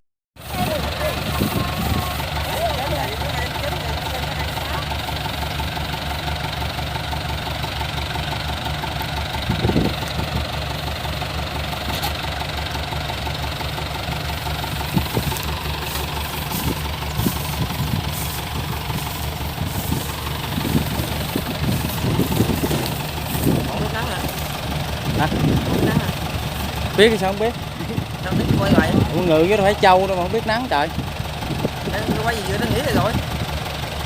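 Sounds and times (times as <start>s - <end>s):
diesel engine running: 0.4s - 34.0s.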